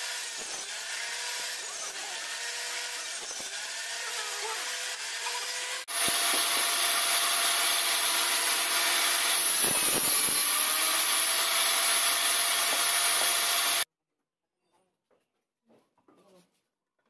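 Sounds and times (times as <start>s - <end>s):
table saw cutting plywood: 0.0s - 13.9s.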